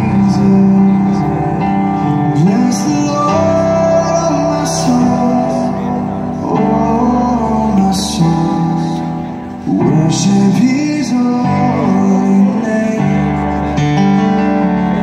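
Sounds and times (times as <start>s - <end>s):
keyboard chords: 0.0s - 15.0s
man singing: 0.0s - 15.0s.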